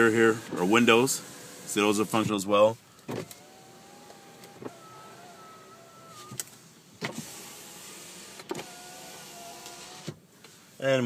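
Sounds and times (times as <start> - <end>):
electric window motor whining: 0.0 - 10.2.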